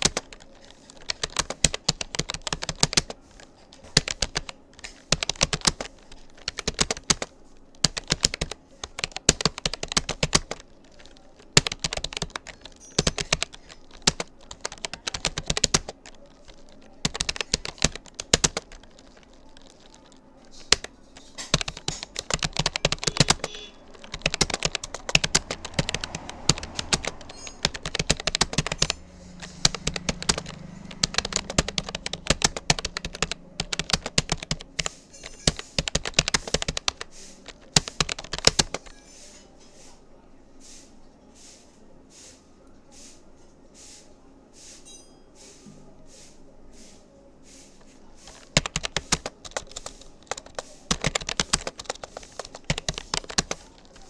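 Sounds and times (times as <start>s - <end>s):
computer keyboard typing: 0.0s - 39.4s, 48.2s - 54.0s.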